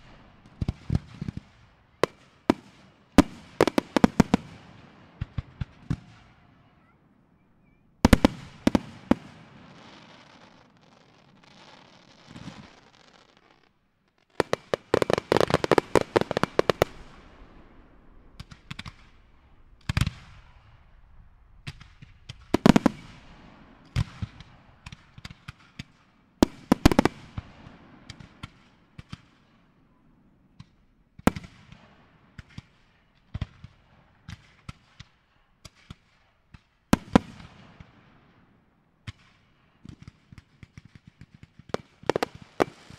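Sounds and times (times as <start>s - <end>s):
fireworks bursting with sharp bangs: 0.0s - 29.7s, 30.5s - 42.9s.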